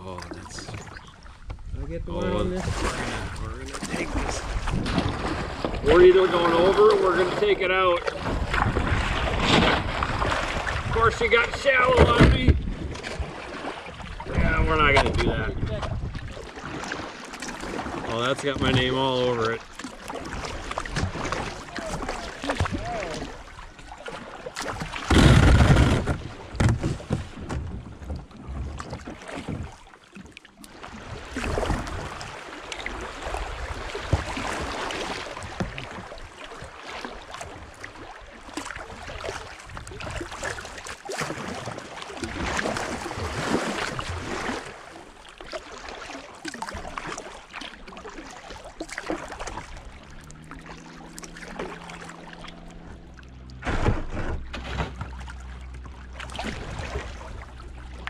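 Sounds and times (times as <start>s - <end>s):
water splashing around kayak: 0.0s - 58.0s.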